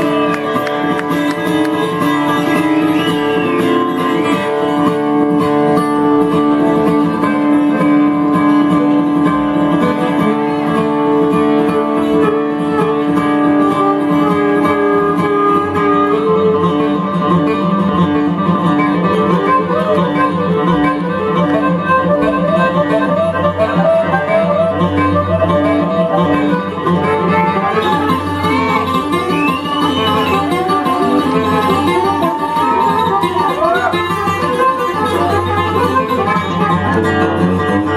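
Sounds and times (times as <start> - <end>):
acoustic guitar: 0.0 - 37.9
bluegrass string band: 0.0 - 37.9.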